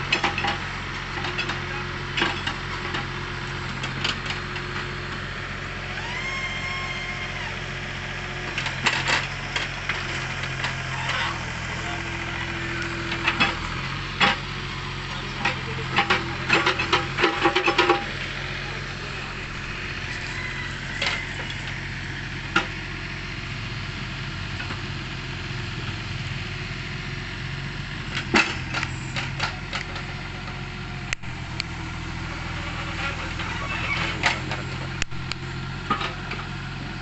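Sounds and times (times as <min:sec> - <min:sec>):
excavator engine humming: 0:00.0 - 0:37.0.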